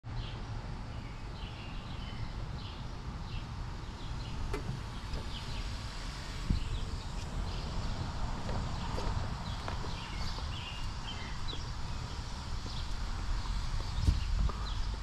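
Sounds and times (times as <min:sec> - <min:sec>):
small birds chirping: 0:00.1 - 0:15.0
steady low rumble: 0:00.4 - 0:15.0.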